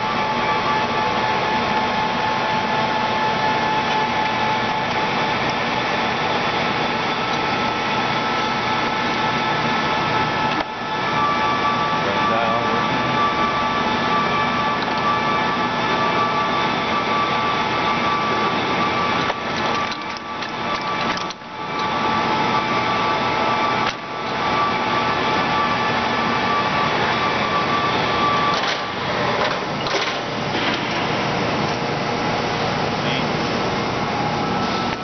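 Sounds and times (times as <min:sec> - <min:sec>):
lathe gears whirring: 0:00.0 - 0:35.0
whining tones: 0:00.0 - 0:35.0.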